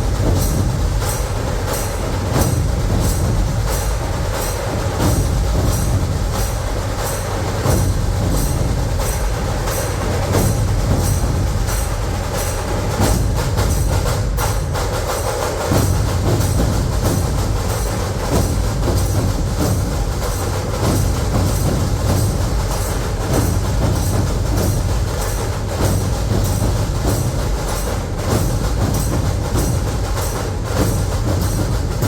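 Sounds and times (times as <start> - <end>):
sharp drum strokes: 0.0 - 32.0.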